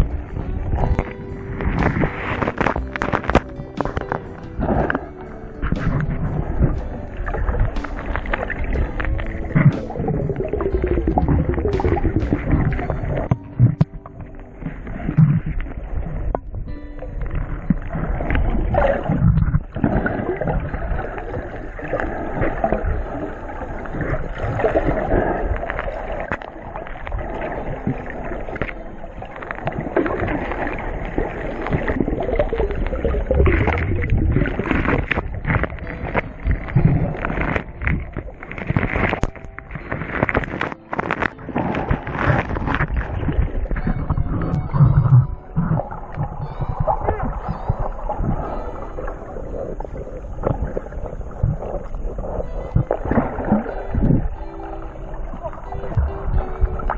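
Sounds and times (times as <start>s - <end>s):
water splashing against boat: 0.0s - 56.9s.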